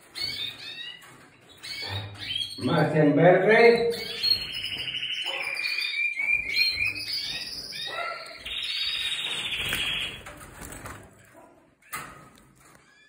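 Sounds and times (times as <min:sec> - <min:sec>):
canary trilling and chirping: 0:00.0 - 0:13.0.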